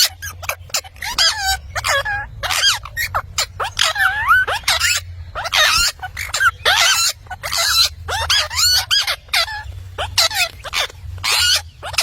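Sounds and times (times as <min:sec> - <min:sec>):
parrot chattering and squawking: 0:00.0 - 0:12.0.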